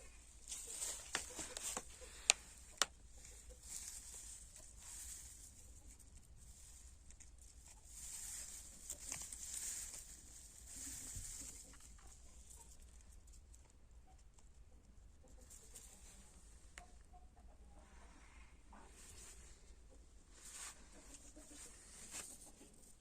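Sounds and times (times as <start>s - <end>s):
hens scratching and rustling: 0.0s - 17.0s, 18.1s - 23.0s.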